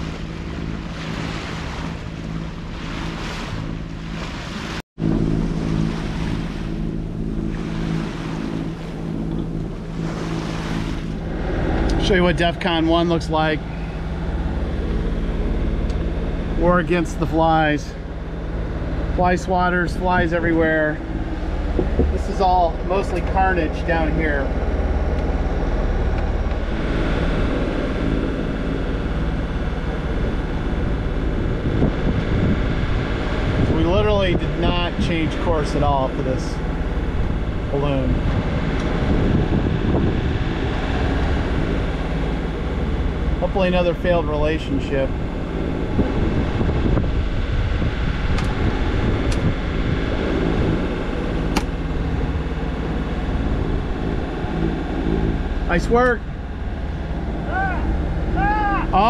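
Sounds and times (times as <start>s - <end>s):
boat diesel engine humming: 0.0s - 59.0s.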